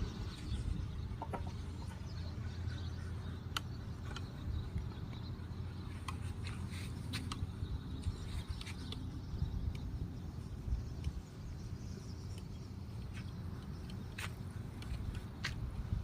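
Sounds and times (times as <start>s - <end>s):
construction machinery engine hum: 0.0s - 16.0s.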